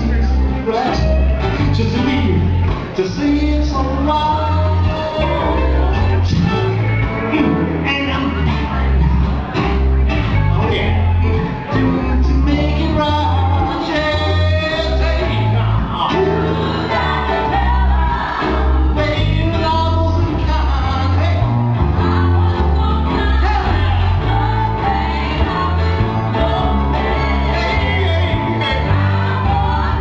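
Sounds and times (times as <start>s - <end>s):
heavy bass line: 0.0s - 30.0s
lead and backing vocals: 0.0s - 30.0s
violin: 0.0s - 30.0s
drums: 0.9s - 30.0s.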